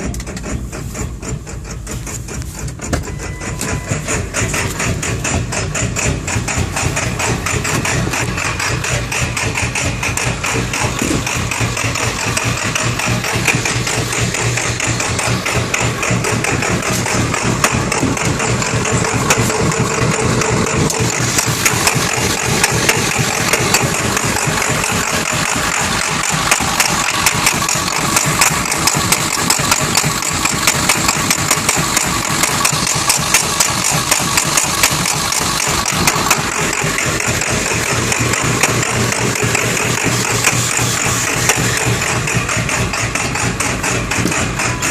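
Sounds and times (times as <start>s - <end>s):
engine idling roughly: 0.0s - 44.9s
sharp irregular engine beats: 0.0s - 44.9s.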